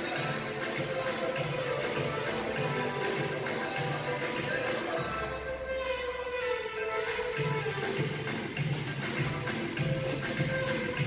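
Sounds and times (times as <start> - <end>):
music with steady bass beat: 0.0 - 11.0.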